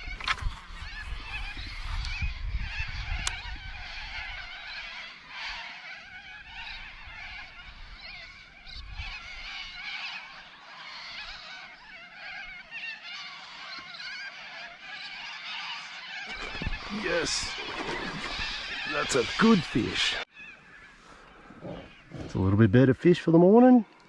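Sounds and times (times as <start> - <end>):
birds harsh calls: 0.0 - 24.0.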